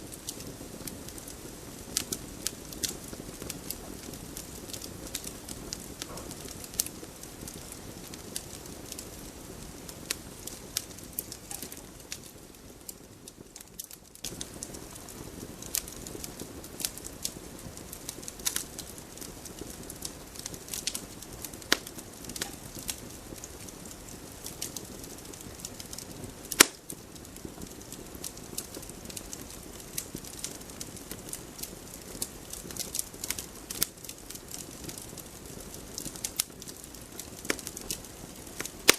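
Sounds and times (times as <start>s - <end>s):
campfire crackling: 0.0s - 38.9s
hiss of flames: 0.0s - 38.9s
sharp pops from burning wood: 0.0s - 38.9s.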